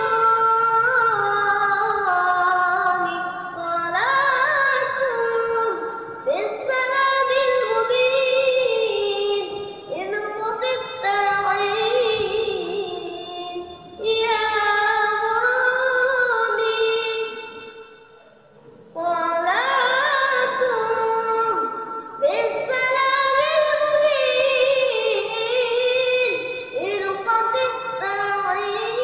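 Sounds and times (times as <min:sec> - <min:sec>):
boy singing devotional song: 0:00.0 - 0:29.0.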